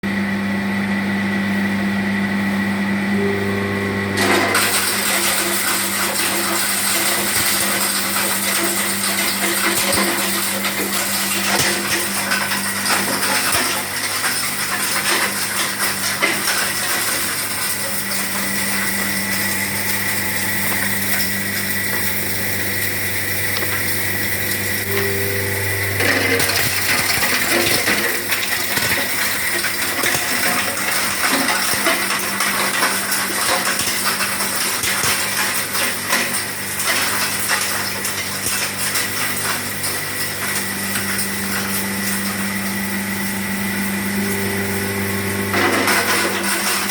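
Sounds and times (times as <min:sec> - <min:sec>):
hammer mill humming: 0:00.0 - 0:46.9.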